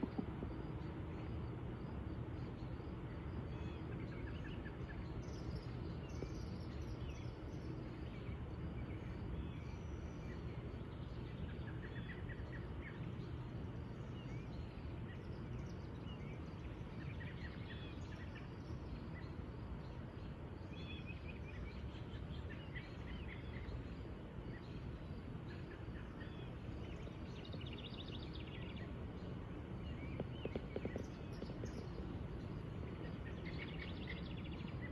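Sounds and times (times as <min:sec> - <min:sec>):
low background rumble: 0:00.0 - 0:34.9
small birds chirping: 0:00.0 - 0:34.9.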